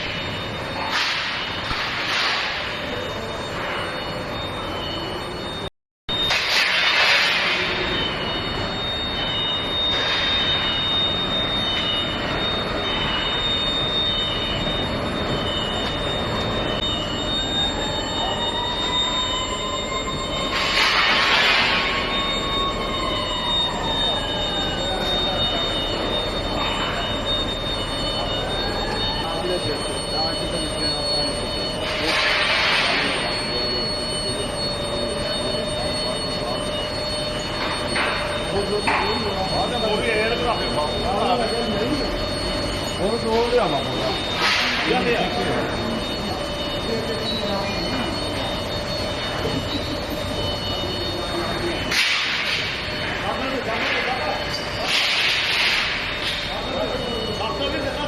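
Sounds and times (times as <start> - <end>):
high-pitched machine whine: 0.0 - 58.0
lower pulsing whine: 0.0 - 58.0.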